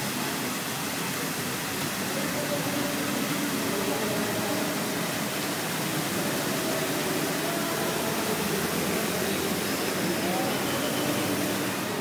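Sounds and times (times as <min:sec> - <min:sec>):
water fountain splashing: 0:00.0 - 0:12.0.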